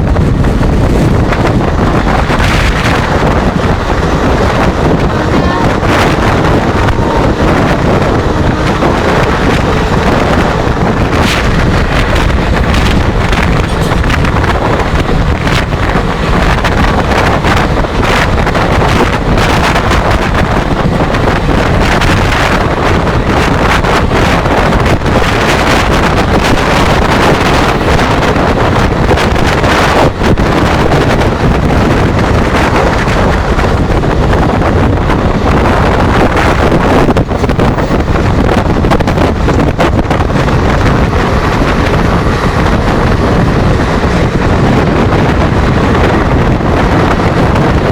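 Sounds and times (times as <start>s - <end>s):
fast-moving train running: 0.0s - 47.9s
wind buffeting microphone: 0.0s - 47.9s.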